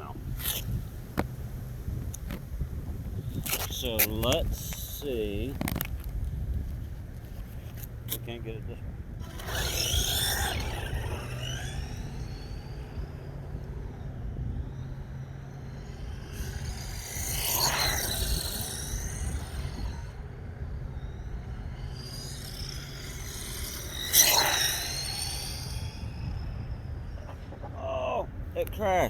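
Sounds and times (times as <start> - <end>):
electric toy truck motor: 0.0 - 27.9.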